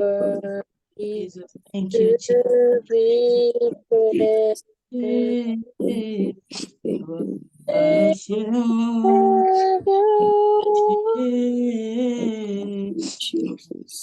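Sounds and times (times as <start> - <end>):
women singing in harmony: 0.0 - 13.0.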